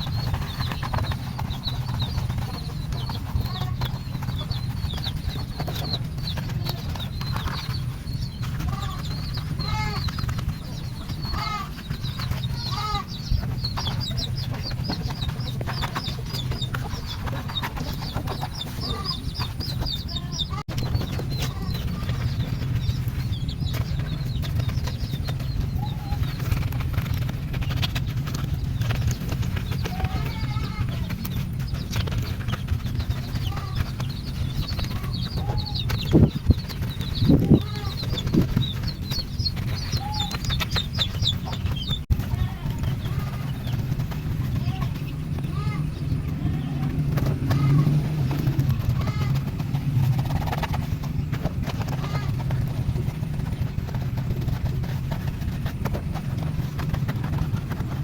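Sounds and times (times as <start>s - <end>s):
birds chirping: 0.0s - 58.0s
steady low rumble: 0.0s - 58.0s.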